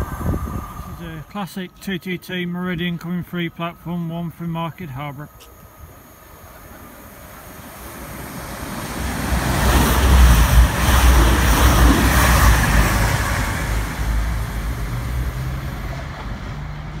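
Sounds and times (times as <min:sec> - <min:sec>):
train passing at speed: 0:00.0 - 0:02.7, 0:05.5 - 0:17.0.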